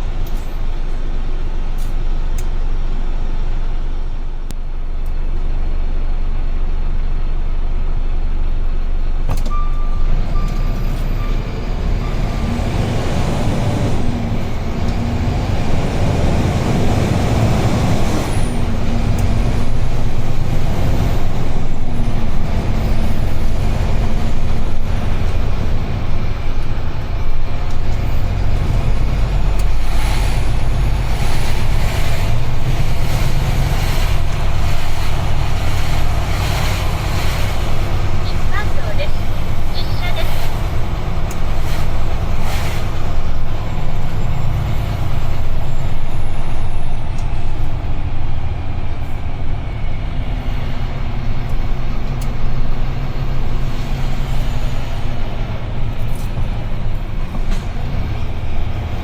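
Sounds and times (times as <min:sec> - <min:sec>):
truck engine and road rumble: 0:00.0 - 0:59.0.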